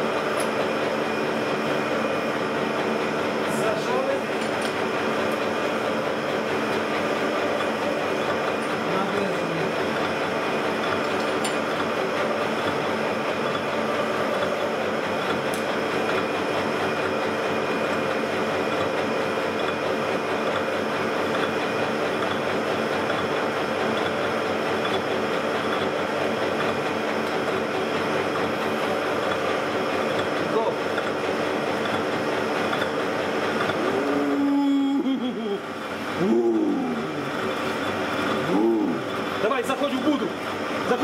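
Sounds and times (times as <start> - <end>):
machine whirring: 0.0 - 41.0.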